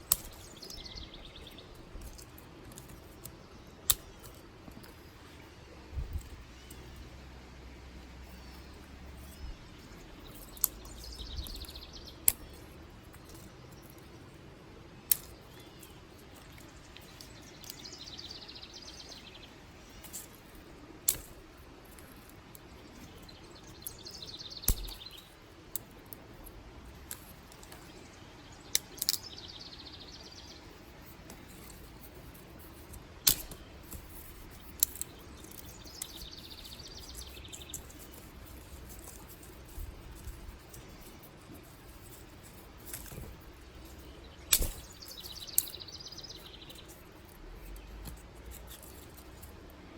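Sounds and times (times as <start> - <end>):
dry sticks snapping: 0.0 - 7.2, 7.9 - 49.8.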